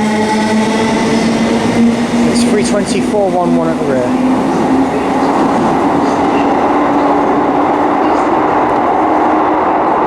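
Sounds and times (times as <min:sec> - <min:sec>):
train hum: 0:00.0 - 0:10.0
train rumbling in station: 0:00.0 - 0:10.0.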